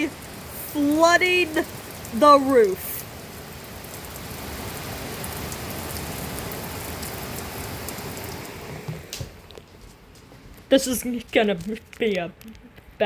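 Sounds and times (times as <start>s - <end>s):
heavy rain on a roof: 0.0s - 13.0s.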